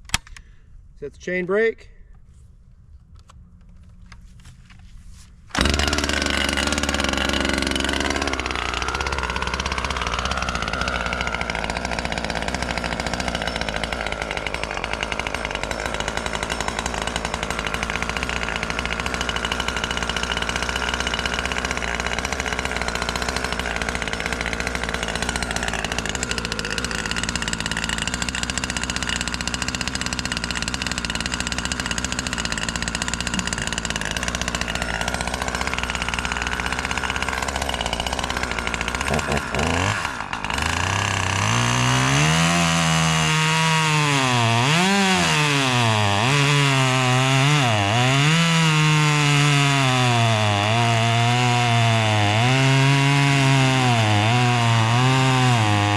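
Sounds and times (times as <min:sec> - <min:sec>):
chainsaw engine running: 0:05.5 - 0:55.9.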